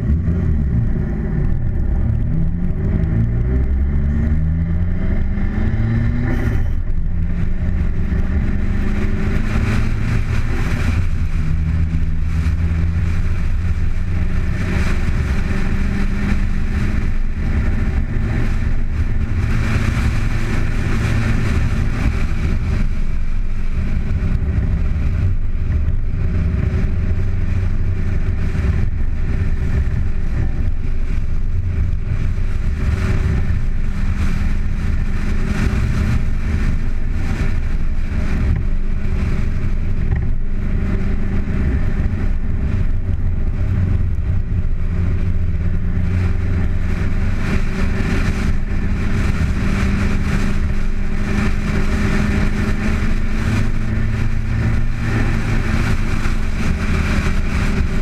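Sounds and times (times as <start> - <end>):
car engine running: 0.0 - 58.0
wind and road noise: 0.0 - 58.0.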